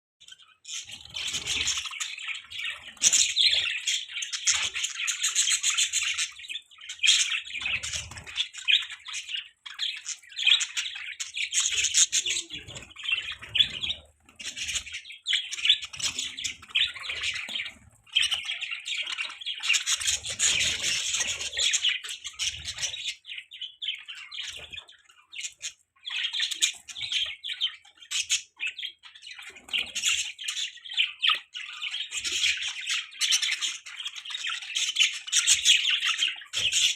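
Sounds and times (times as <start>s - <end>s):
budgerigars chirping and warbling: 0.2s - 36.9s.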